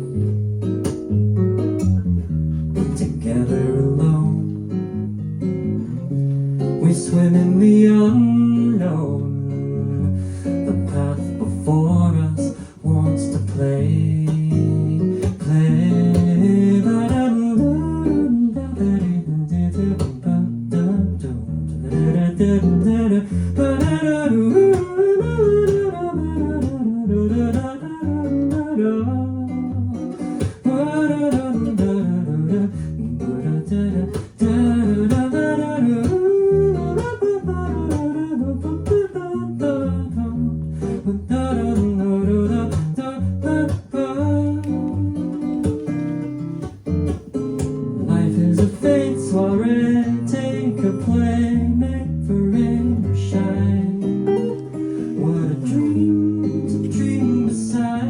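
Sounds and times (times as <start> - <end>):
acoustic guitar strumming: 0.0 - 58.0
person singing wordless melody: 6.8 - 45.6, 48.0 - 58.0.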